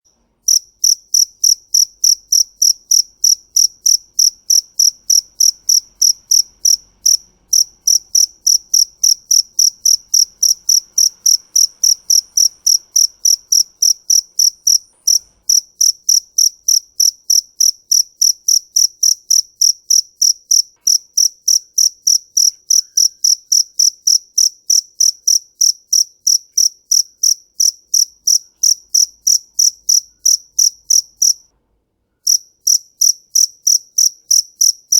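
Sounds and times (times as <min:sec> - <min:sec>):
cricket chirping: 0:00.5 - 0:31.5, 0:32.2 - 0:34.9.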